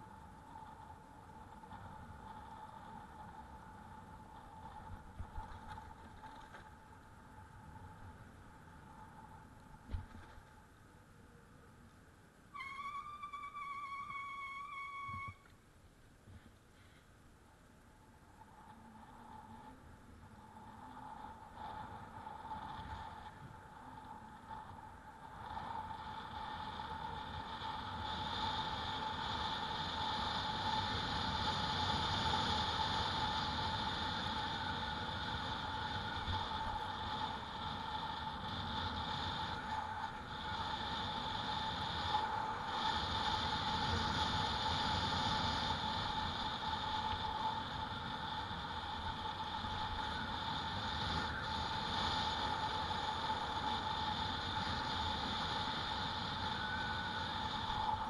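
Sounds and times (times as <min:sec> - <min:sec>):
wind noise: 0:00.0 - 0:15.6, 0:16.2 - 0:58.0.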